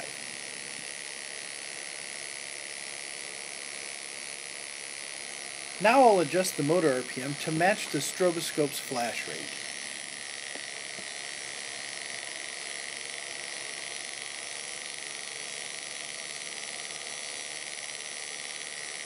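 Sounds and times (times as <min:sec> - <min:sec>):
rotary tool whirring: 0:00.0 - 0:19.0.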